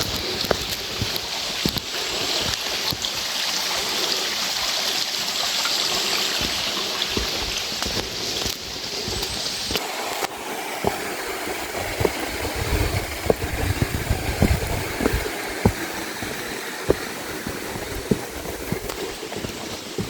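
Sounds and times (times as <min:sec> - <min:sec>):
footsteps on rough path: 0:00.0 - 0:20.0
stream rushing: 0:00.0 - 0:20.0.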